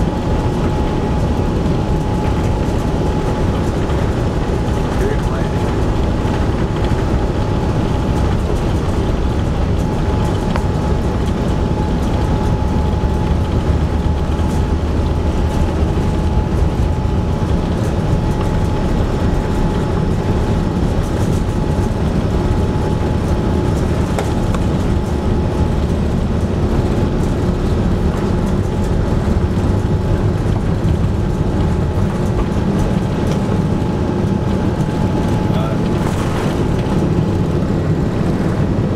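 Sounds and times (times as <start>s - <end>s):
aircraft cabin rumble: 0.0s - 38.9s
low hum: 0.0s - 38.9s
thin steady whine: 0.0s - 38.9s.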